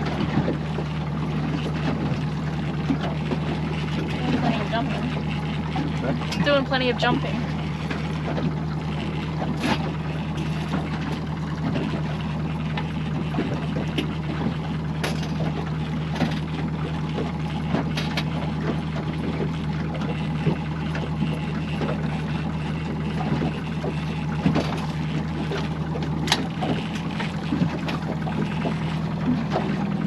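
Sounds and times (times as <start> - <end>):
outboard motor humming: 0.0 - 30.0
water washing against hull: 0.0 - 30.0.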